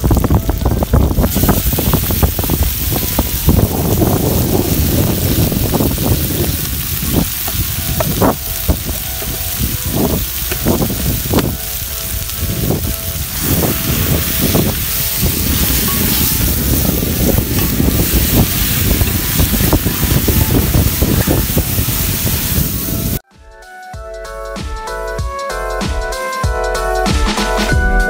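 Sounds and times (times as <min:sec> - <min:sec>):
meat frying in hot oil: 0:00.0 - 0:23.2
wind rumble on microphone: 0:00.0 - 0:23.2.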